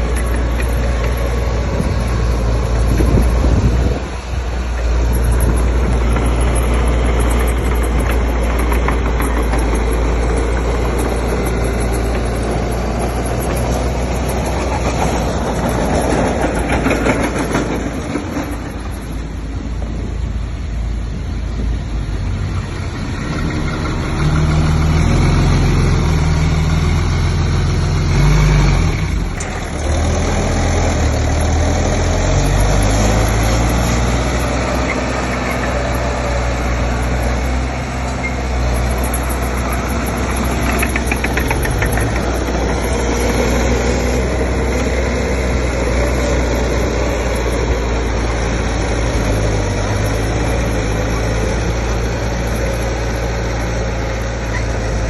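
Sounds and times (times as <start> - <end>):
heavy machine diesel engine: 0.0 - 55.0.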